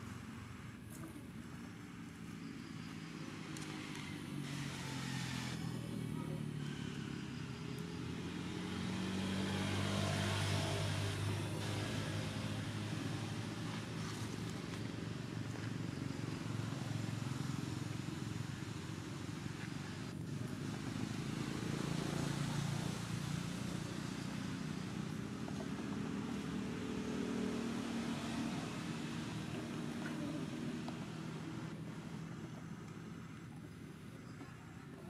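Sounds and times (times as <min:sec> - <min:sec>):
vehicle engine passing by: 0:02.7 - 0:33.6.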